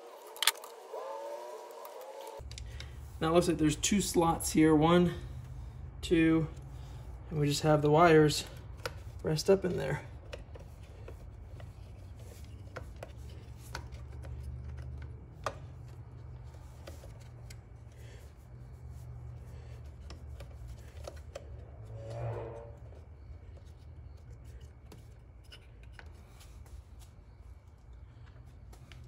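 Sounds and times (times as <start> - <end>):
wires rubbing and scraping: 0.0 - 28.7
steady low hum: 0.0 - 29.0.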